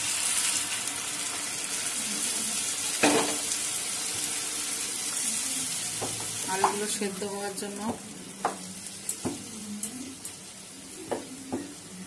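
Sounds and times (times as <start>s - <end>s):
oil hissing and sizzling: 0.0s - 12.0s.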